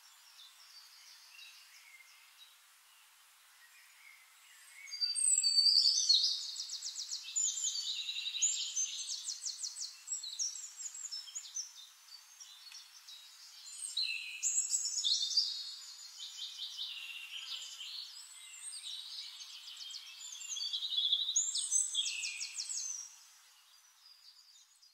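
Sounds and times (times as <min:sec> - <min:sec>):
songbirds trilling and warbling: 0:00.0 - 0:24.9.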